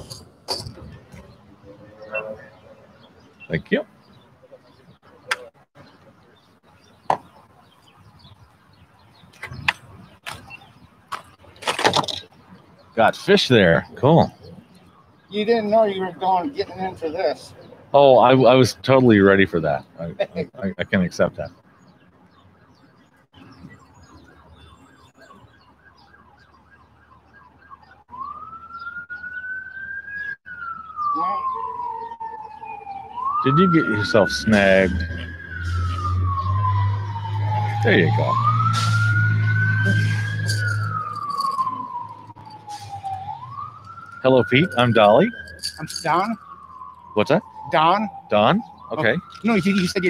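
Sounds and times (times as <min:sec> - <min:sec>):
siren wail: 0:00.0 - 0:11.1, 0:11.7 - 0:50.0
siren yelp: 0:00.0 - 0:11.1, 0:11.8 - 0:50.0.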